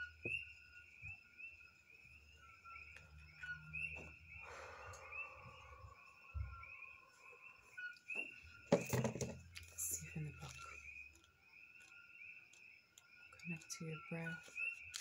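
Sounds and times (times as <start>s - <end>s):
night animals chirping: 0.0s - 15.0s.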